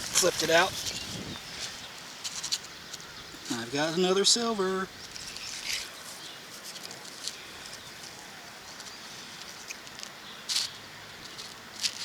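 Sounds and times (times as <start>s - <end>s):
soil scraping and rustling: 0.0s - 3.9s, 5.0s - 12.0s.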